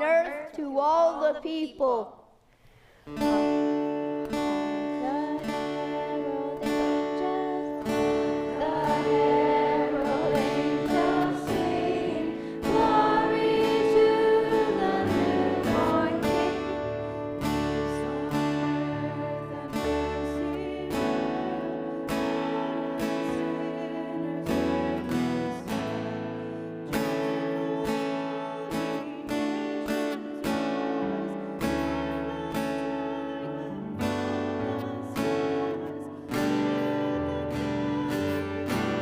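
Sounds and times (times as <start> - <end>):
strummed acoustic guitar chords: 3.1 - 39.0.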